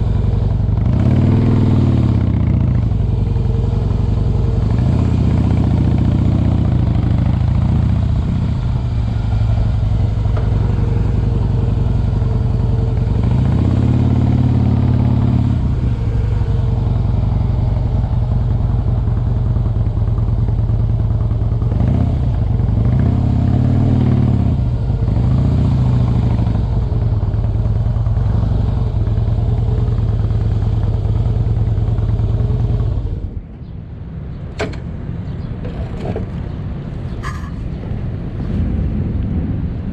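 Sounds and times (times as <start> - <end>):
motorcycle engine revving: 0.0 - 33.4.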